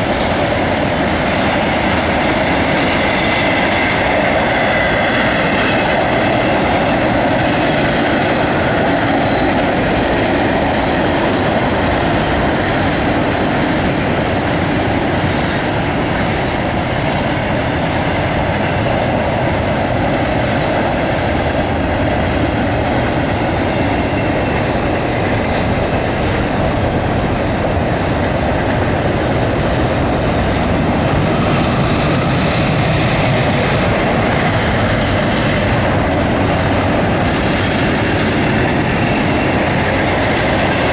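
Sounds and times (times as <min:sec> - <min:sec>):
steel wheels on rails: 0:00.0 - 0:40.9.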